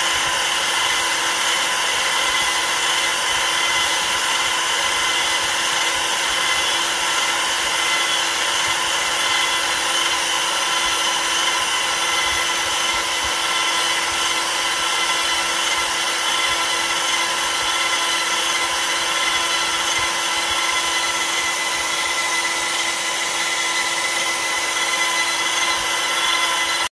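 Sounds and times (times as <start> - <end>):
router spindle whine: 0.0 - 26.9
wood being cut: 0.0 - 26.9.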